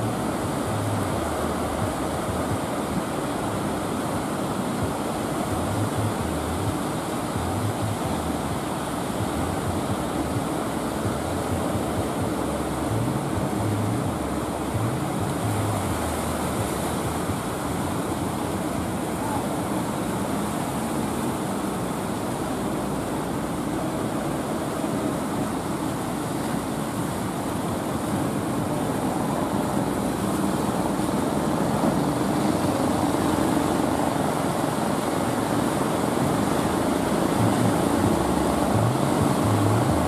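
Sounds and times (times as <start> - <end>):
boat engine drone: 0.0 - 40.0
surf and churning sea water: 0.0 - 40.0.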